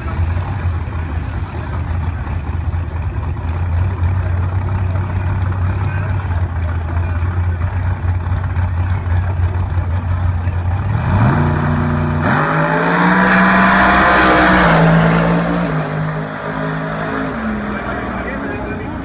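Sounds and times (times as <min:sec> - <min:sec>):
drag car engine revving: 0:00.0 - 0:19.0.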